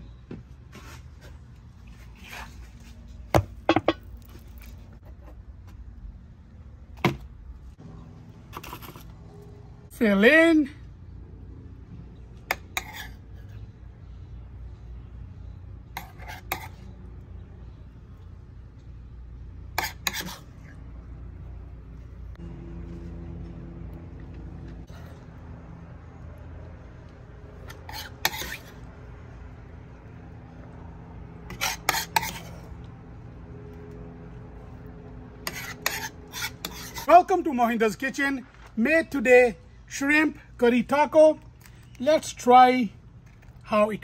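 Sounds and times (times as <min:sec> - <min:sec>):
low steady hum: 0:00.0 - 0:37.2.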